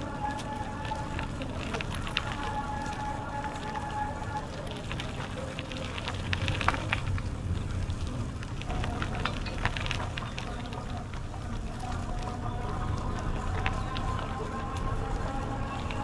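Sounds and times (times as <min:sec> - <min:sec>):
bicycle tyres crackling on trail: 0:00.0 - 0:16.0
low rumble of tyres and wind: 0:00.0 - 0:16.0.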